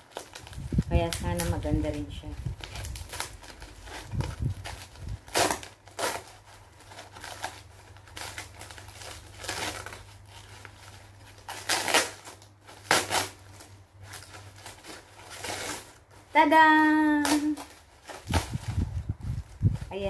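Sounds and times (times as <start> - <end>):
plastic packaging crinkling and ripping: 0.0 - 20.0.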